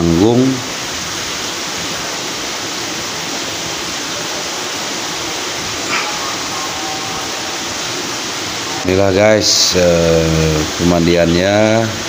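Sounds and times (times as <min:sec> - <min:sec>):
spring water flowing into pool: 0:00.0 - 0:12.0.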